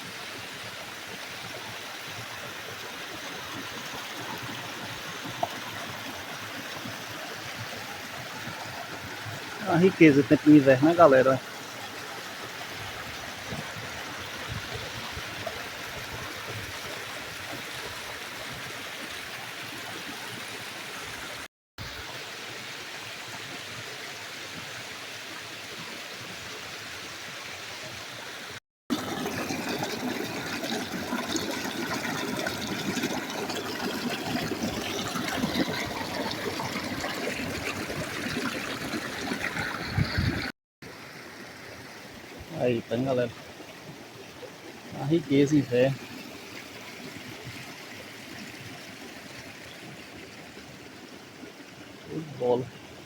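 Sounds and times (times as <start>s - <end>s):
waterfall rushing and splashing: 0.0s - 53.0s.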